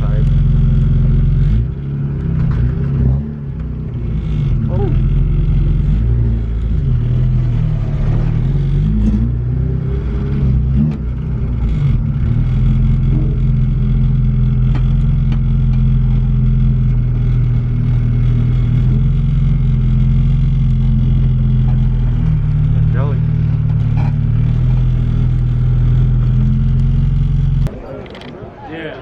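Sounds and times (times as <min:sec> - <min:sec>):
car engine driving: 0:00.0 - 0:29.0.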